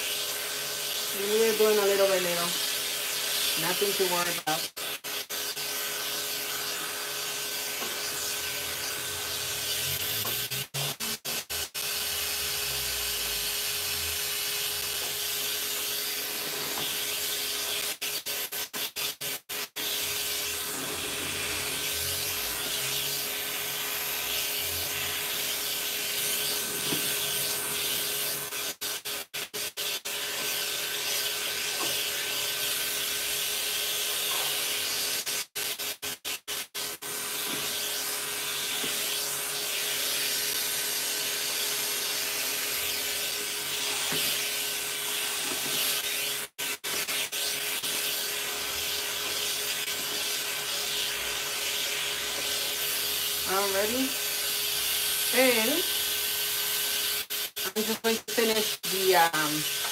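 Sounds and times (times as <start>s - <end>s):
electric pet clippers running: 0.0s - 18.2s, 19.6s - 59.9s.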